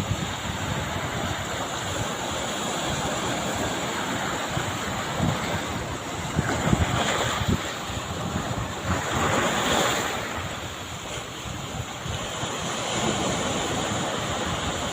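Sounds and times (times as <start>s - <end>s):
surf rushing: 0.0s - 14.9s
wind buffeting microphone: 0.0s - 14.9s.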